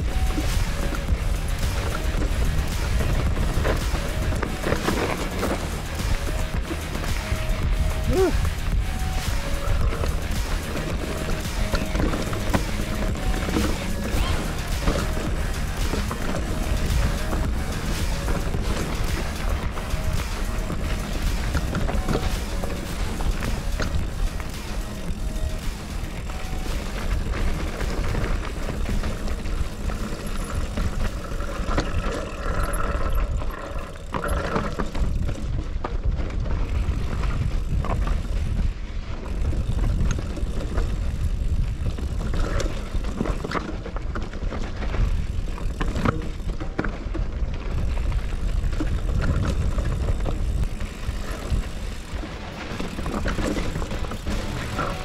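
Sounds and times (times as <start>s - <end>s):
bike rattling over rocks: 0.0s - 55.0s
bike tyres rumbling on dirt: 0.0s - 55.0s.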